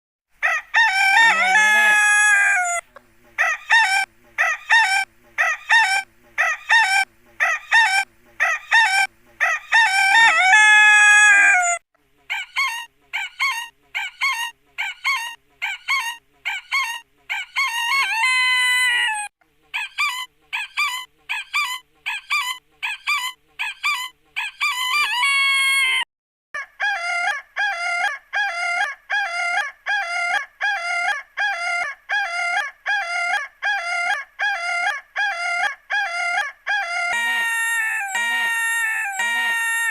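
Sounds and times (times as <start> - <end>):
chicken clucking and calling: 0.4 - 26.0, 26.6 - 39.9.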